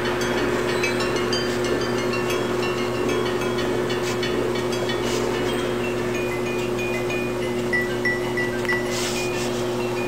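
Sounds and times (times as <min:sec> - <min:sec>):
high chiming tones: 0:00.0 - 0:10.0.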